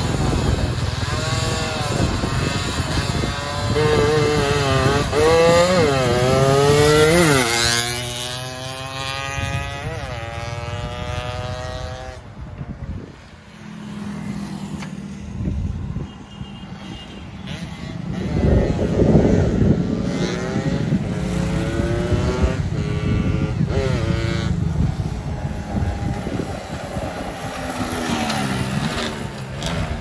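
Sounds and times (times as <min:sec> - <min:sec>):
motorcycle accelerating past: 0:00.0 - 0:12.3, 0:17.4 - 0:30.0
passing road traffic hum: 0:00.0 - 0:30.0.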